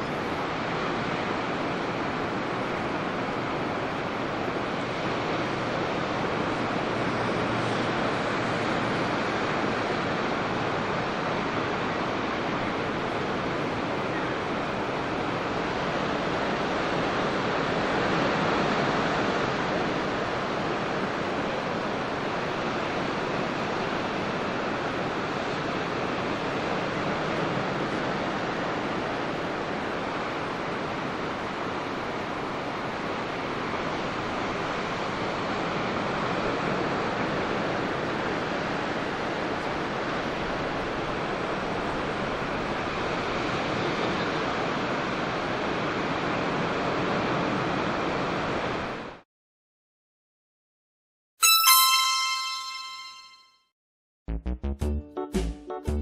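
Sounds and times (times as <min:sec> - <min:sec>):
ocean waves breaking: 0:00.0 - 0:49.1.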